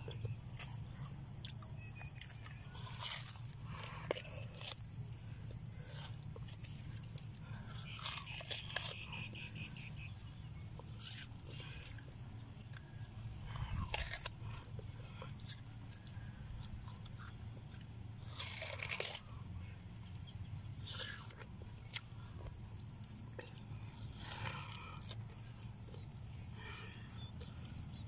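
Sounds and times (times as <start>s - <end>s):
crunchy chewing of watermelon: 0.0s - 28.0s.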